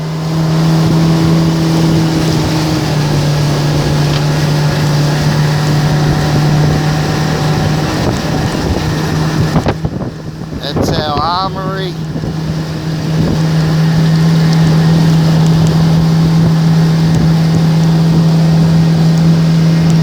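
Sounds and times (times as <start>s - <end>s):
motorboat engine humming: 0.0s - 20.0s
water rushing past hull: 0.0s - 20.0s
wind buffeting microphone: 0.0s - 20.0s.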